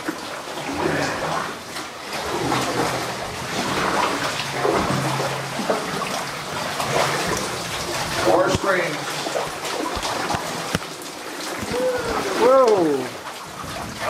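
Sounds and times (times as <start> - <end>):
paddles dipping into water: 0.0 - 14.0
water rushing and splashing: 0.0 - 14.0.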